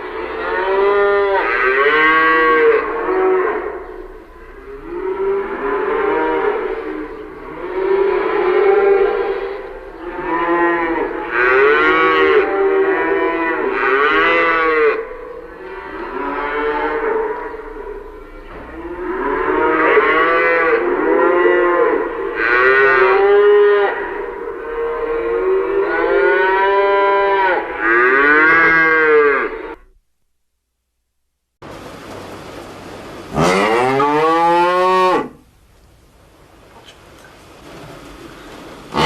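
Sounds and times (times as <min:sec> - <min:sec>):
cattle mooing: 0:00.0 - 0:29.9, 0:33.3 - 0:35.4.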